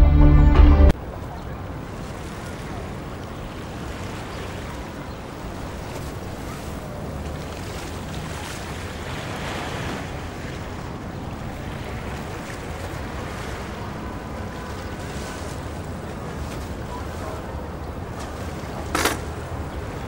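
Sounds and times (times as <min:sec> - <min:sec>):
water noise: 0:00.0 - 0:20.0
wind: 0:00.0 - 0:20.0.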